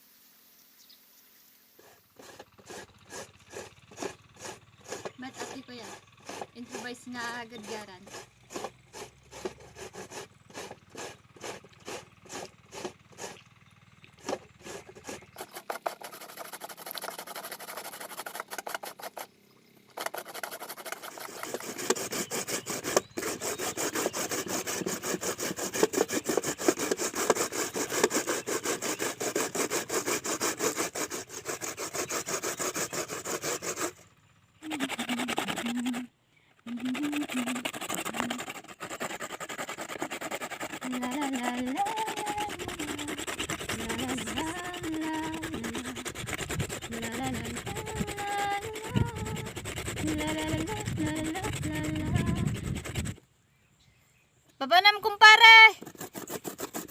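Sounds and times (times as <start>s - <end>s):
papaya rasping on a hand grater: 1.8s - 13.5s, 14.1s - 34.0s, 34.6s - 53.2s, 54.8s - 56.9s.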